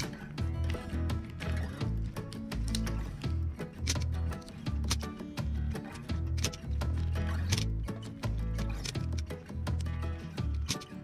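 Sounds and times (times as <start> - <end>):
background music with bass and beat: 0.0 - 11.0.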